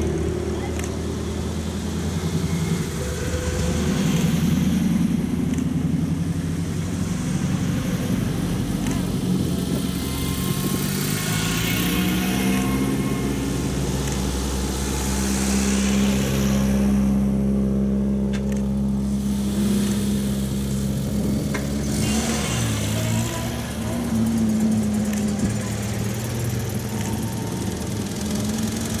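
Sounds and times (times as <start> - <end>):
car engines passing by: 0.0 - 29.0.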